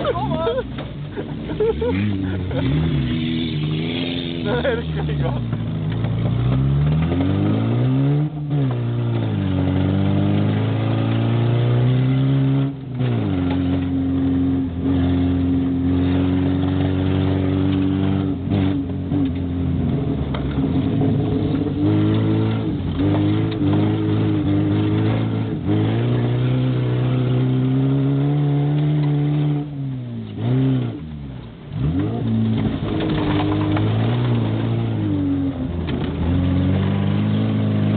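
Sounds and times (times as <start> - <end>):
race car engine revving: 0.0 - 37.9.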